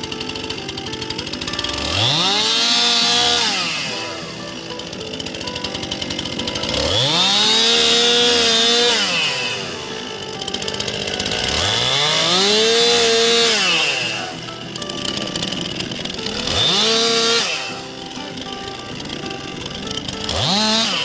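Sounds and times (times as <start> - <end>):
chainsaw revving and cutting logs: 0.0 - 21.0.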